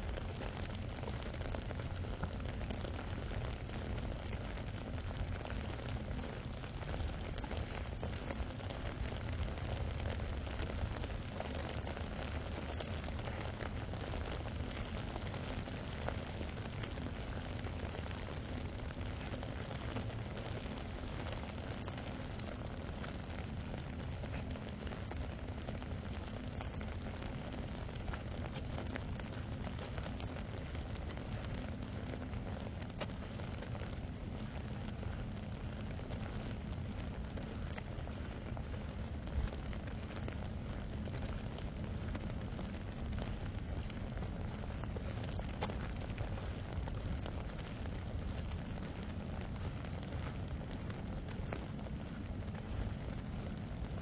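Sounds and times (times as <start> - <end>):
rain pattering on umbrella: 0.0 - 54.0.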